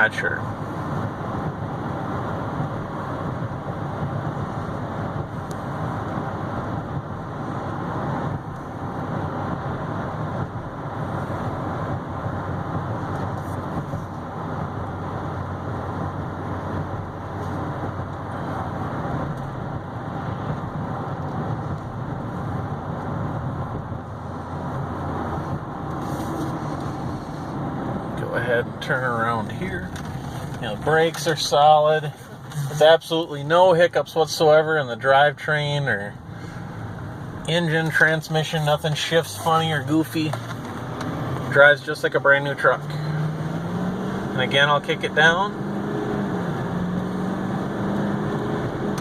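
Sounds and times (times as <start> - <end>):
diesel truck engine humming: 0.0 - 49.0
road noise inside cab: 0.0 - 49.0.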